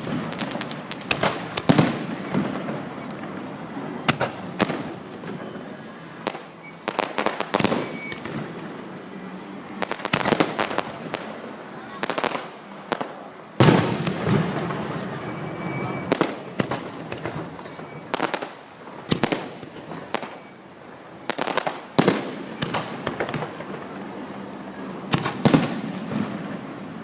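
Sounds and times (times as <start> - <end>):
fireworks banging: 0.0 - 27.0
fireworks crackling and rumbling: 0.0 - 27.0.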